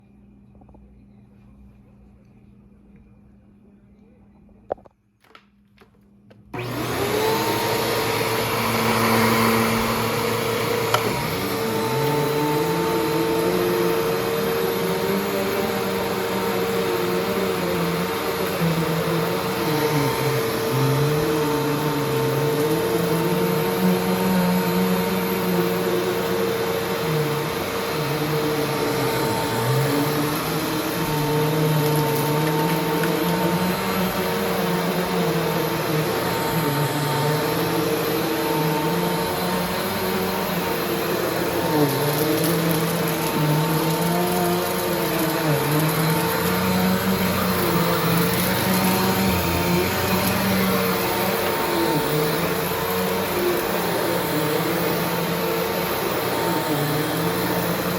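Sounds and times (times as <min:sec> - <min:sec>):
vacuum cleaner motor whining: 0:06.5 - 0:57.9.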